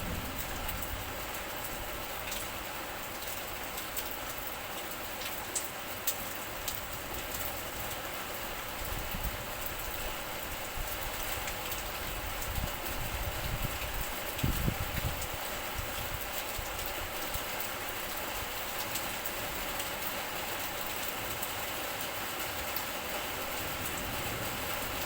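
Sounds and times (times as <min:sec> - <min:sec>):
raindrops ticking close by: 0:00.0 - 0:25.0
steady rain falling: 0:00.0 - 0:25.0.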